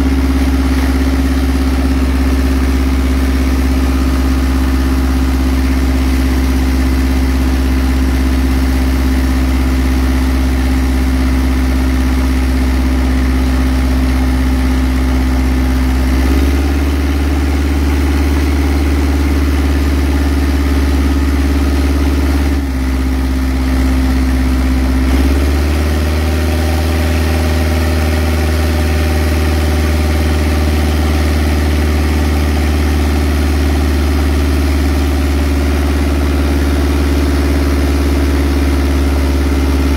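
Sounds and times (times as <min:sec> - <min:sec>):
engine driving water pump: 0:00.0 - 0:39.9.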